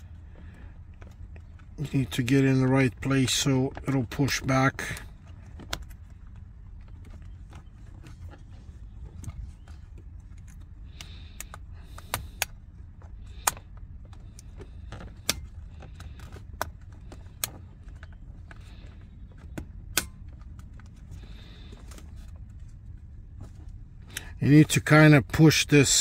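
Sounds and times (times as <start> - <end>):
steady low rumble: 0.0 - 26.0
rustling and scraping: 3.0 - 24.4.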